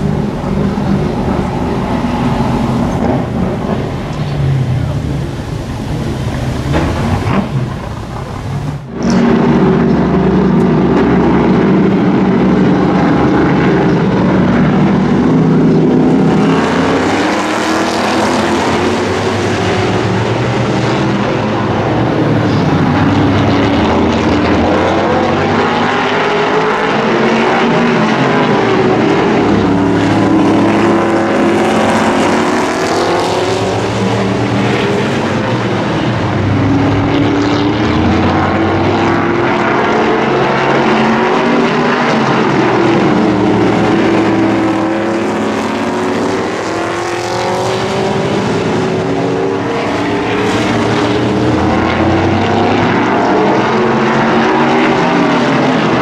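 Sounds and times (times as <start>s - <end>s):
race car engines lapping: 0.0s - 56.0s.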